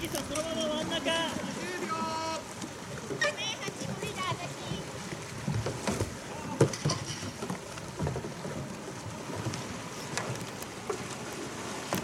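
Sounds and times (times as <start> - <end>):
paddles knocking on hulls: 0.0 - 12.0
water splashing: 0.0 - 12.0.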